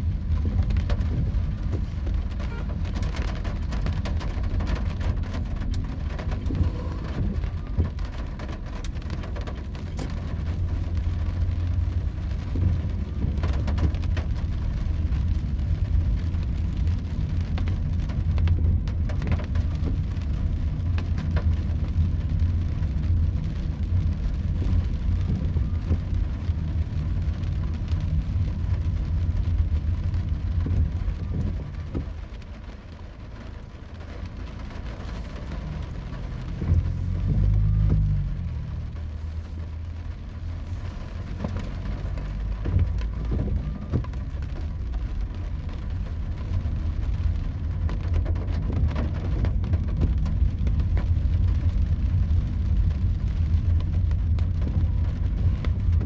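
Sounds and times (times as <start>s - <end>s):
car driving on wet road: 0.0s - 56.0s
heavy rain on car roof: 0.0s - 56.0s.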